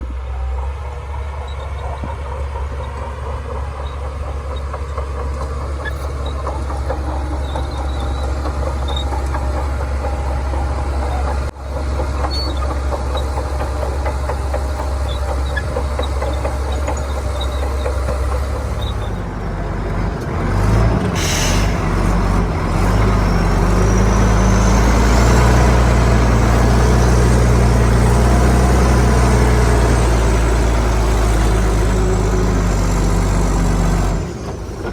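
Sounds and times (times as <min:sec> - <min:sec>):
bulldozer diesel engine: 0:00.0 - 0:34.9.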